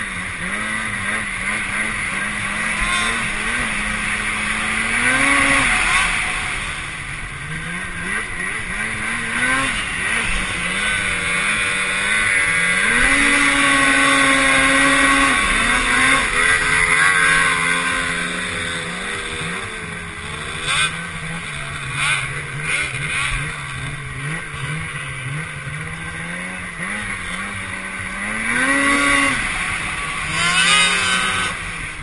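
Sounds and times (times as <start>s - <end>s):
snowmobile engine revving: 0.0s - 32.0s
steady rushing noise: 0.0s - 32.0s.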